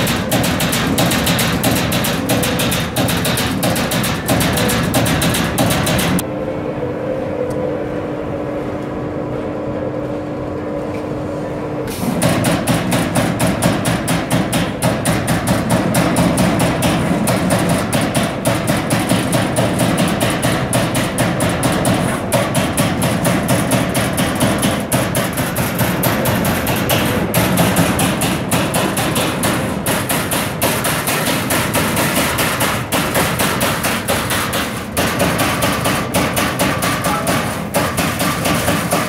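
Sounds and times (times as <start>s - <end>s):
punch press hitting steel sheet: 0.0s - 6.2s, 12.2s - 39.0s
machine hum: 0.0s - 39.0s.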